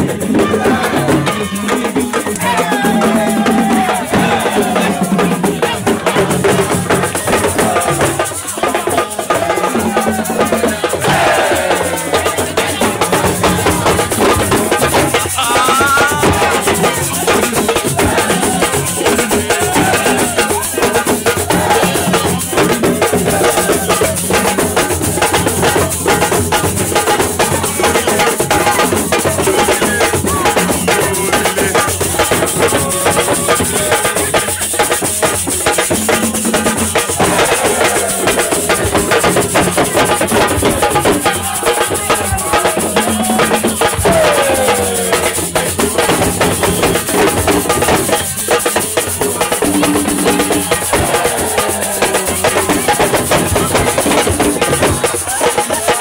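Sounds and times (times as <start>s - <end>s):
fast dense drumming: 0.0s - 56.0s.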